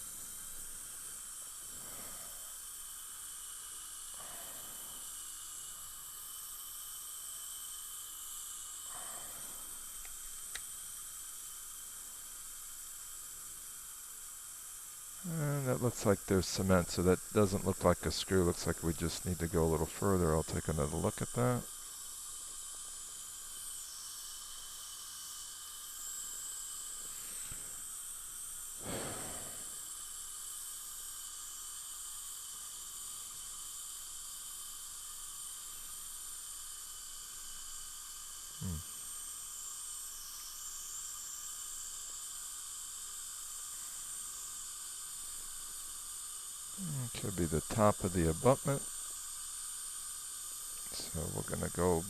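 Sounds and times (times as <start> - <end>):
dental equipment hissing: 0.0 - 52.0.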